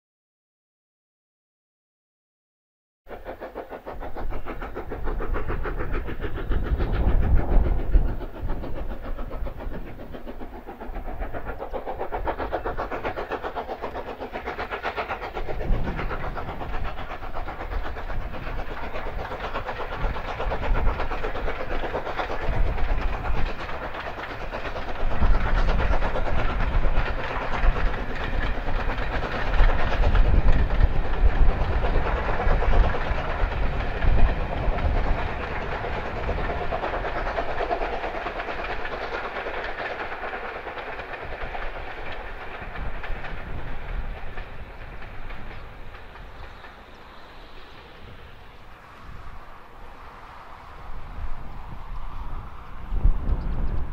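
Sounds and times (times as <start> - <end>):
steam locomotive exhaust beat: 3.1 - 53.9
train rumbling on rails: 3.1 - 53.9.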